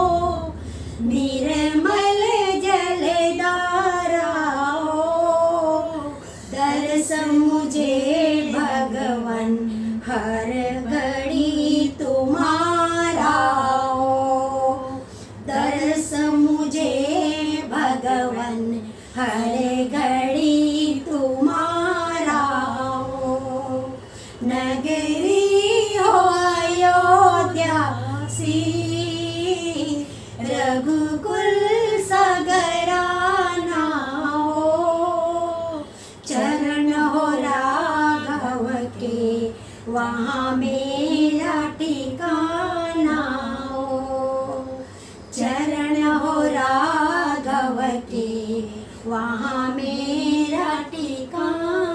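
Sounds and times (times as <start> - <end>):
women singing unaccompanied: 0.0 - 51.9.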